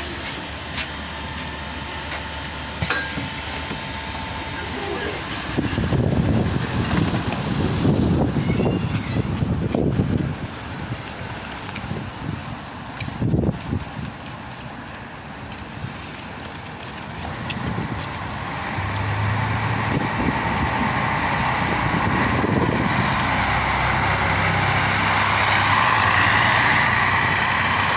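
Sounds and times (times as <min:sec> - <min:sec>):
bus diesel engine hum: 0:00.0 - 0:27.9
road noise: 0:00.0 - 0:27.9.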